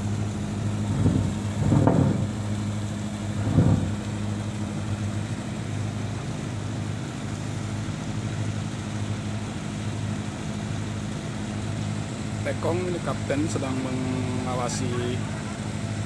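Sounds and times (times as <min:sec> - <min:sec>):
boat diesel engine idling: 0:00.0 - 0:16.0.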